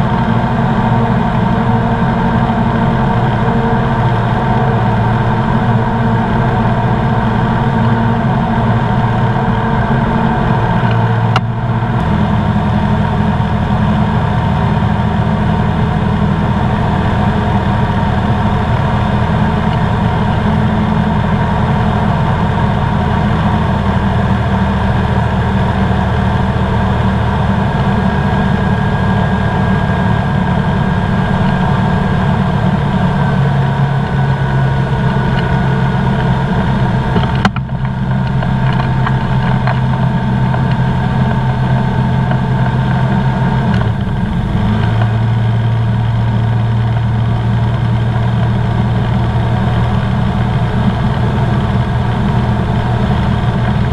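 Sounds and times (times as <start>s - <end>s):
ultralight engine and propeller drone: 0.0s - 53.9s.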